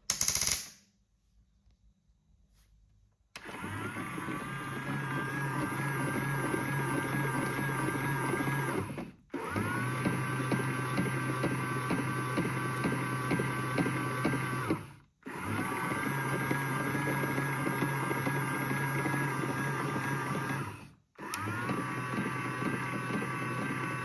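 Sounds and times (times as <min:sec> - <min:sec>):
toy washing machine motor whining: 0:03.4 - 0:24.0.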